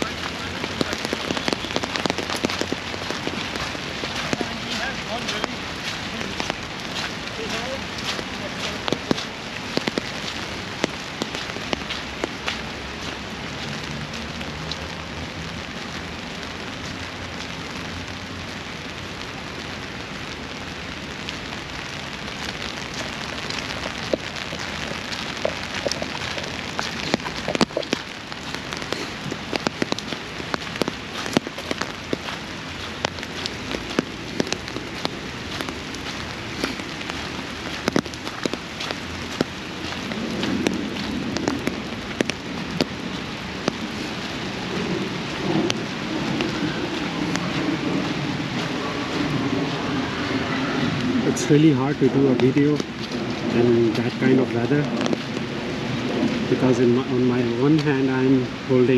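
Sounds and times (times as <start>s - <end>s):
rain drops ticking on umbrella: 0.0s - 58.9s.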